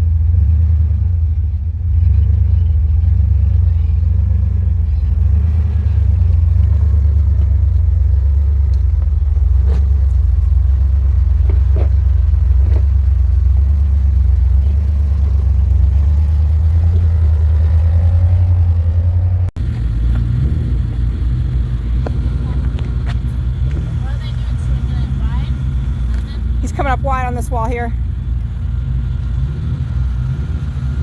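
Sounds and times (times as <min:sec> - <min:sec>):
off-road vehicle engine rumbling: 0:00.0 - 0:31.0.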